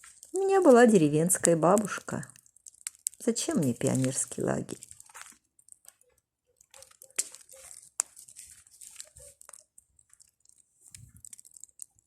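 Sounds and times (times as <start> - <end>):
bonfire crackling: 0.0 - 12.0
fire pops and snaps: 0.0 - 12.0.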